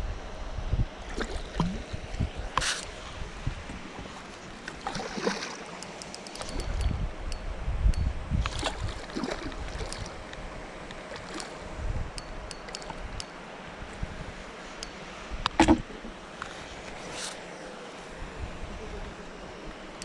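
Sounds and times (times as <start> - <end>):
wind rumbling on microphone: 0.0 - 5.2, 6.4 - 17.2, 18.1 - 20.0.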